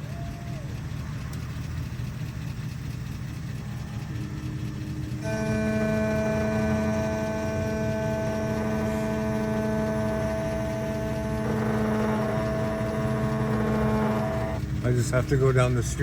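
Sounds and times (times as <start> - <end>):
electric motor humming: 1.0 - 16.0.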